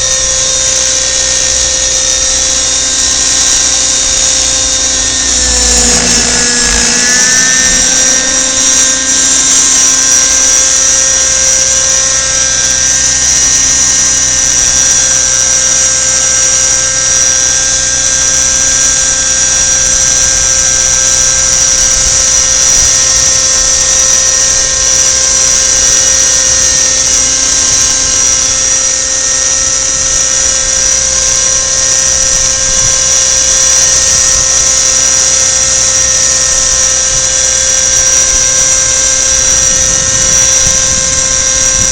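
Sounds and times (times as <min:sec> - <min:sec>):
model helicopter high-pitched whine: 0:00.0 - 0:41.9.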